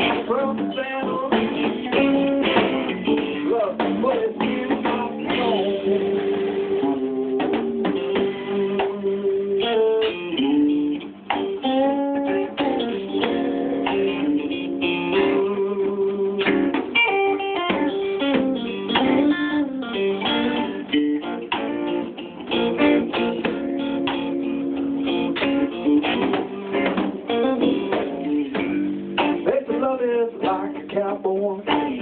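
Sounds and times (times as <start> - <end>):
guitar chords and runs: 0.0 - 32.0.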